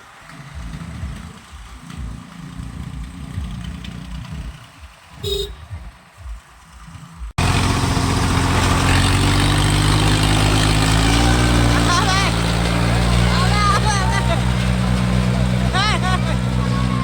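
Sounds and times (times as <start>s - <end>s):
tractor diesel engines rumbling: 0.0s - 6.0s, 7.4s - 17.0s.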